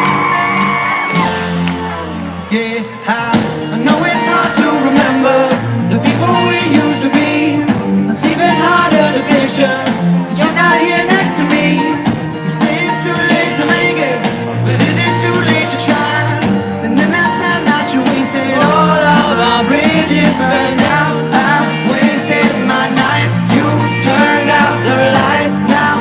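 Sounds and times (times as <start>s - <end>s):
live rock band playing: 0.0s - 26.0s
lead singer singing: 1.8s - 26.0s.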